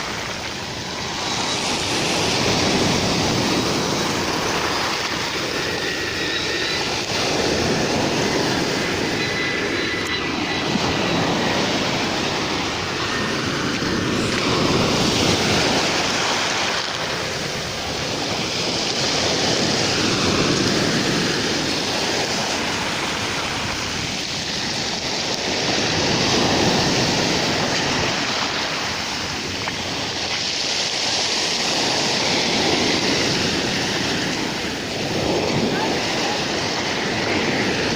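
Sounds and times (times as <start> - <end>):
waves breaking on shore: 0.0 - 37.9.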